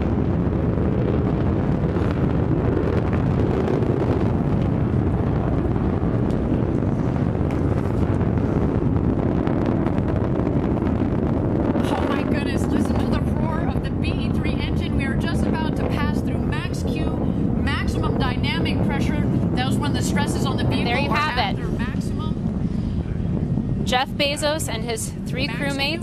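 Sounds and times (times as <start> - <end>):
rocket engine low rumble: 0.0 - 26.0.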